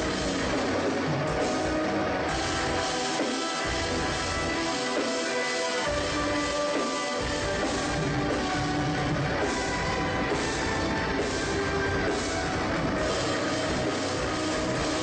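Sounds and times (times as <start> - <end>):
metalcore band playing live: 0.0 - 15.0.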